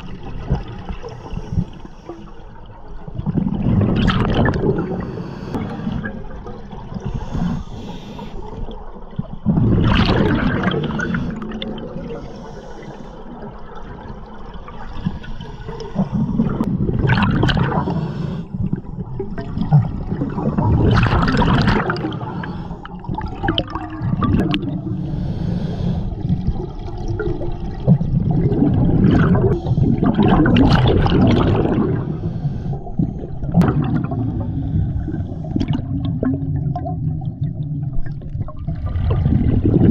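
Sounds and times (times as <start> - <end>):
exhaled bubbles gurgling underwater: 0.0 - 39.9
low water rumble: 0.0 - 39.9.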